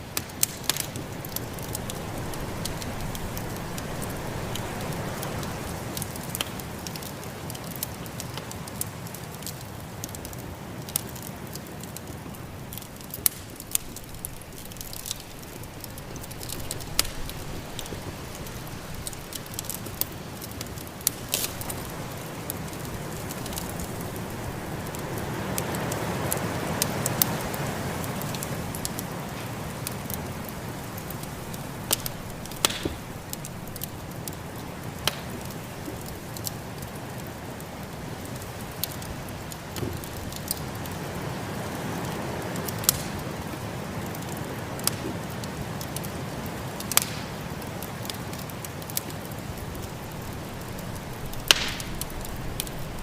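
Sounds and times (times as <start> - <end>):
snowstorm wind: 0.0 - 8.5, 11.1 - 46.1, 49.5 - 53.0
wood fire crackling: 0.0 - 53.0.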